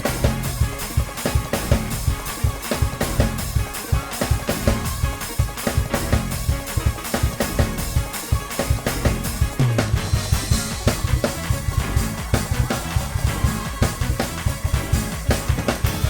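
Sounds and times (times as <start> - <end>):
bass: 0.0 - 16.0
fast drum kit groove: 0.0 - 16.0
sustained keyboard chords: 0.0 - 16.0.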